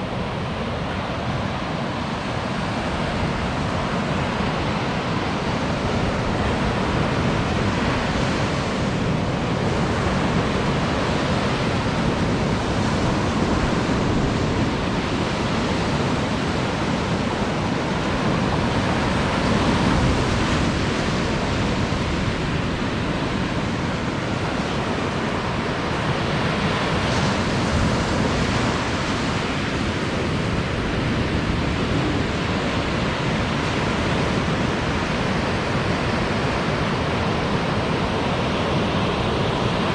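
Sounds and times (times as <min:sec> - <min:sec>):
surf washing on beach: 0:00.0 - 0:39.9.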